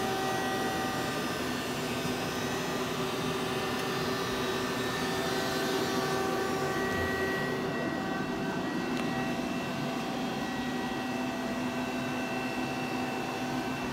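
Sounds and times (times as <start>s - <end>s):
machine whine: 0.0s - 13.9s.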